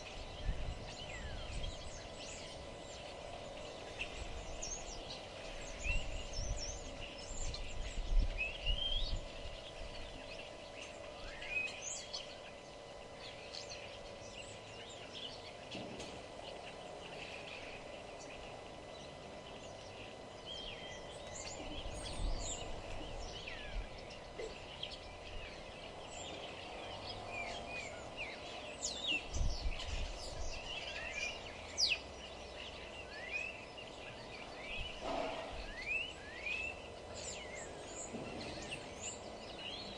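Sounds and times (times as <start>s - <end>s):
steady low hum: 0.0s - 39.9s
wild birds singing and calling: 0.0s - 39.9s.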